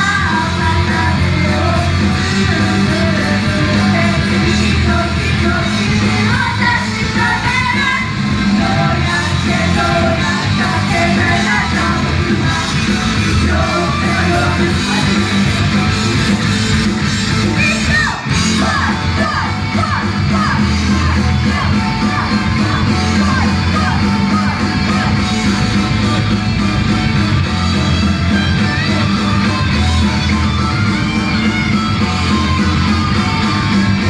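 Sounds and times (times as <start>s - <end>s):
live rock song in a hall: 0.0s - 34.0s.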